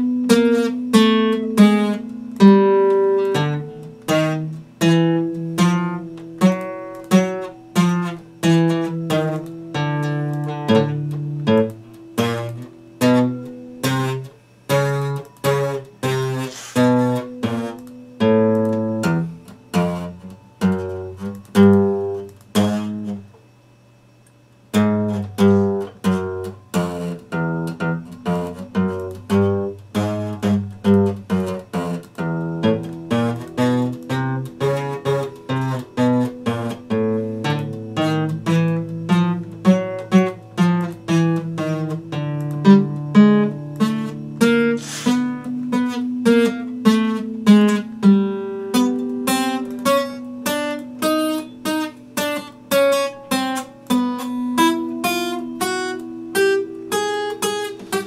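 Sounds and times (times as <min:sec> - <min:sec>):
acoustic guitar playing: 0:00.0 - 0:23.4, 0:24.6 - 0:58.0.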